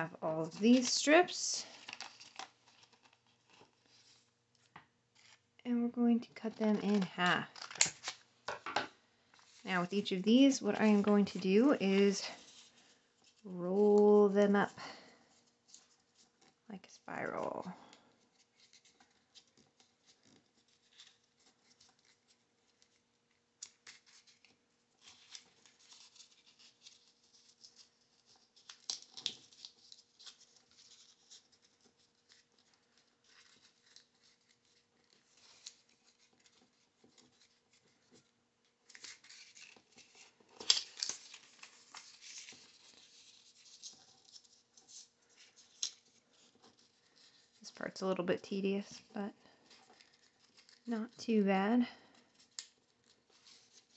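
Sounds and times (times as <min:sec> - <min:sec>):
paper rustling and scraping: 0:00.0 - 0:05.5, 0:06.4 - 0:08.7, 0:09.3 - 0:16.6, 0:17.4 - 0:48.0, 0:48.8 - 0:51.2, 0:52.1 - 0:53.9
paper crinkling: 0:00.0 - 0:05.6, 0:06.3 - 0:51.2, 0:51.8 - 0:53.9.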